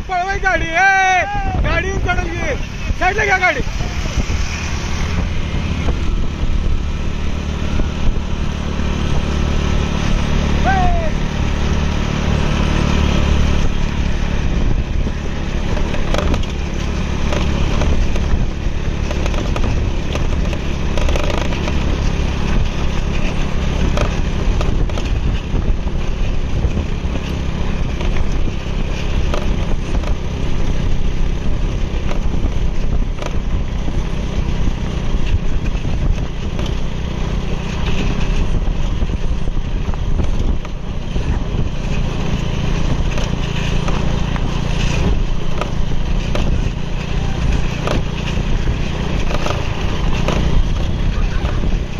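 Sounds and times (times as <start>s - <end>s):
road noise: 0.0s - 51.9s
vehicle engine running: 0.0s - 51.9s
wind noise: 0.0s - 51.9s.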